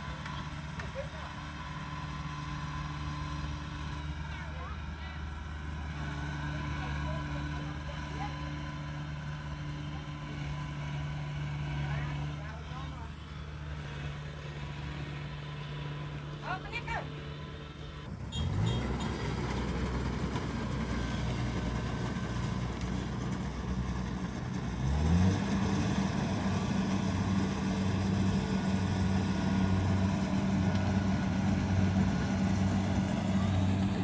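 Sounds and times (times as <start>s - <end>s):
combine harvester diesel engine: 0.0s - 34.0s.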